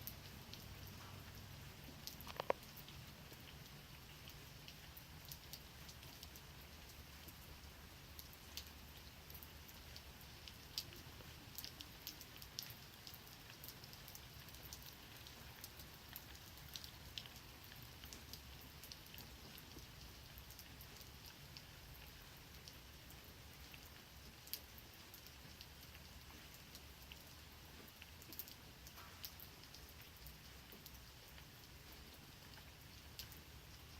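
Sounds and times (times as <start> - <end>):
low steady rain hiss: 0.0 - 33.9
rain drops ticking on a surface: 0.0 - 33.9.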